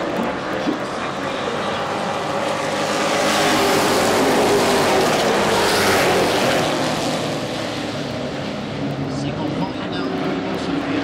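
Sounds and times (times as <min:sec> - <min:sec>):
race trucks passing: 0:00.0 - 0:11.0.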